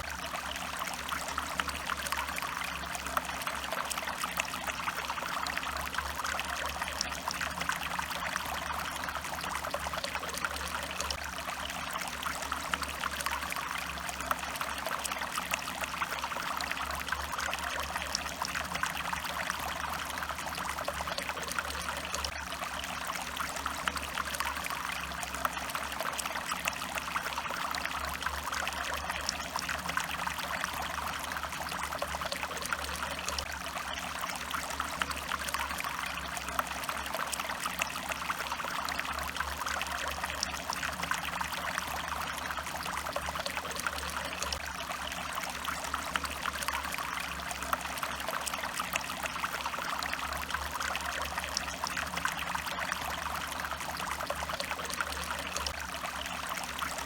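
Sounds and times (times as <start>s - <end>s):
small stream babbling: 0.0s - 57.0s.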